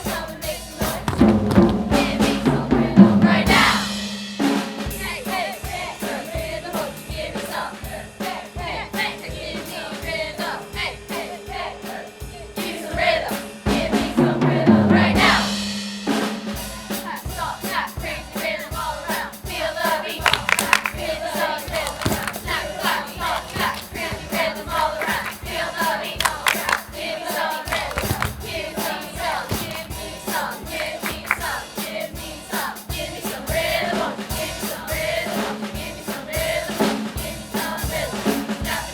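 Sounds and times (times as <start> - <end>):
choir singing: 0.0 - 38.9
percussion beat: 0.0 - 38.9.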